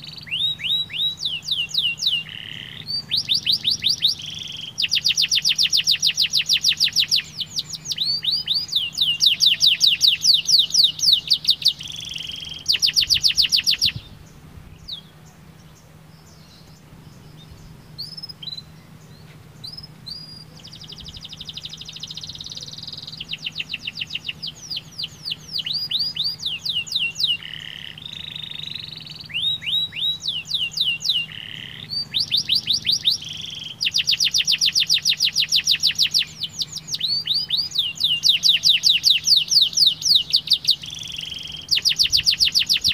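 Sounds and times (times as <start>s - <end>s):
canary chirps: 0.0s - 42.9s
canary singing trills: 0.0s - 42.9s.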